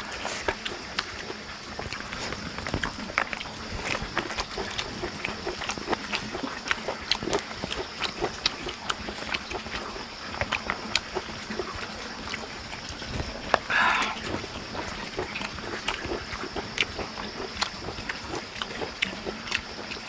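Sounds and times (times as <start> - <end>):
people chewing and lip smacking: 0.0 - 20.0.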